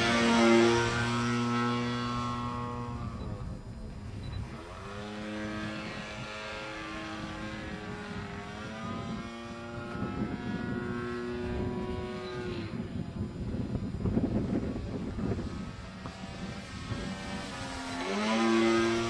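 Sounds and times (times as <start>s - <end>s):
propeller plane flying overhead: 0.0s - 19.0s.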